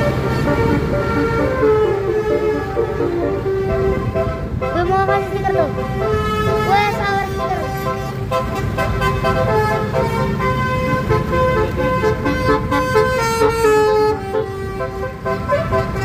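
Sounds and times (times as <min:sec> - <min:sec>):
bus engine rumbling: 0:00.0 - 0:16.0
musical bus horn playing a tune: 0:00.0 - 0:16.0.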